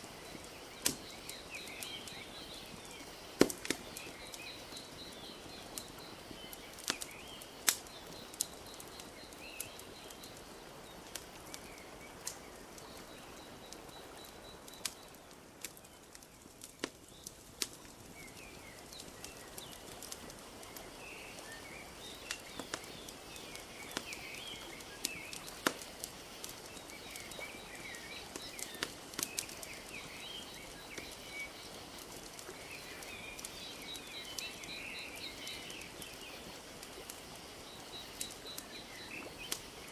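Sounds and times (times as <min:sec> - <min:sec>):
small birds chirping: 0:00.0 - 0:39.9
wood fire crackling: 0:00.0 - 0:39.9.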